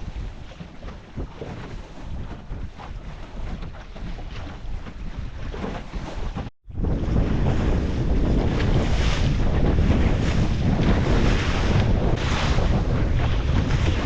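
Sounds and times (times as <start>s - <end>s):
water sloshing: 0.0s - 14.0s
wind buffeting microphone: 0.0s - 14.0s.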